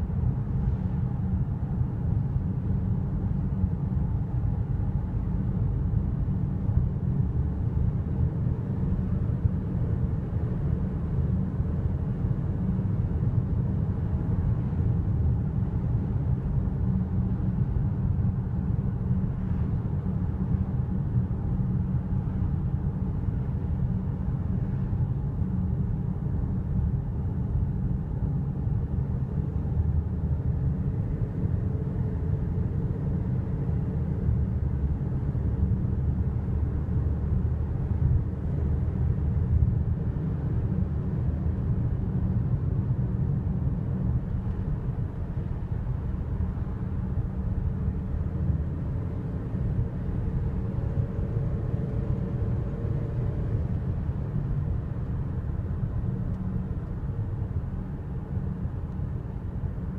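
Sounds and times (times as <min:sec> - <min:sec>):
car driving at highway speed: 0:00.0 - 0:59.9.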